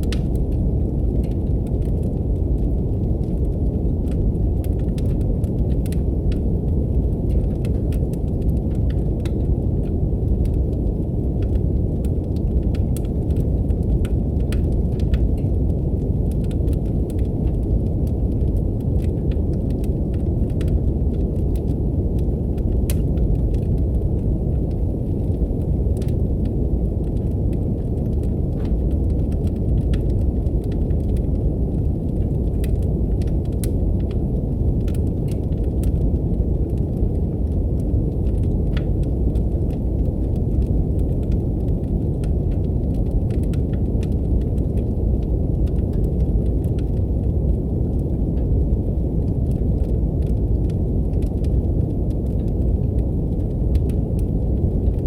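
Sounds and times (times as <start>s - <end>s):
brown noise hiss: 0.0s - 55.0s
fire crackling and popping: 0.0s - 55.0s.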